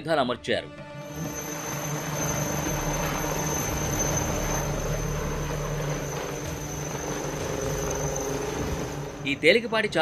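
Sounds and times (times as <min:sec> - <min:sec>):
helicopter engine and rotor noise: 0:00.6 - 0:10.0.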